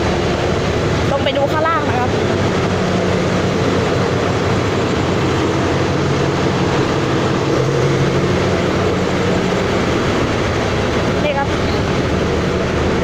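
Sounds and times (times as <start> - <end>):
low even hum: 0.0 - 13.0
train running rumble: 0.0 - 13.0.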